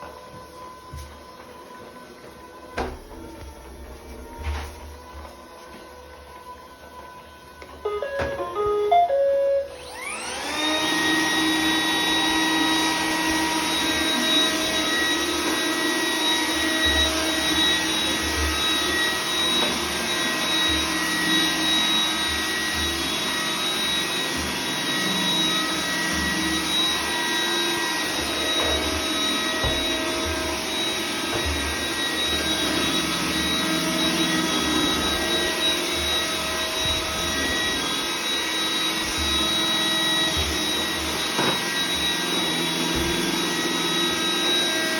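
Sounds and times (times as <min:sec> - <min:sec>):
brushes whirring on floor: 0:00.0 - 0:44.9
robot vacuum motor whine: 0:07.6 - 0:44.9.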